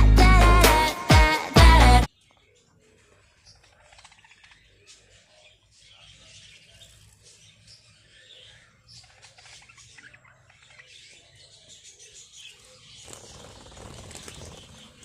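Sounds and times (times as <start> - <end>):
budgerigars chirping: 2.7 - 15.0.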